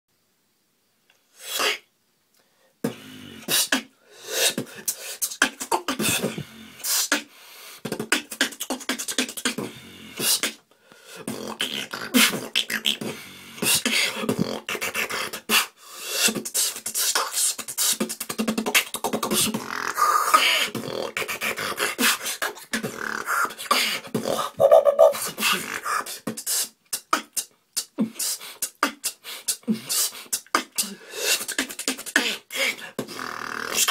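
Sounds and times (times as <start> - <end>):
person beatboxing: 1.4 - 1.9, 2.8 - 33.9.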